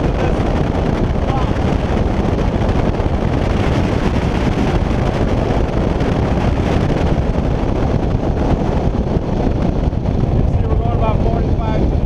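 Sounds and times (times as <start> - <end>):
outboard engine: 0.0 - 12.0
wind buffeting microphone: 0.0 - 12.0.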